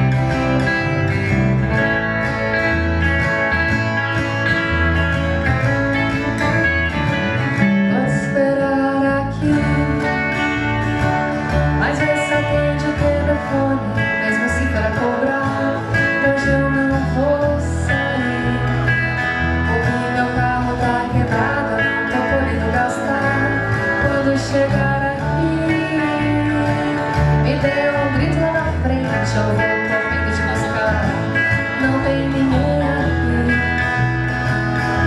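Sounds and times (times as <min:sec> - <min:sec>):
acoustic guitar: 0:00.0 - 0:35.0
live band playing pop song: 0:00.0 - 0:35.0.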